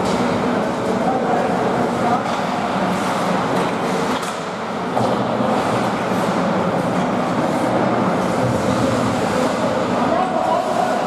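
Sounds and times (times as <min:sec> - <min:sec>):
ice rink rumbling: 0:00.0 - 0:11.0.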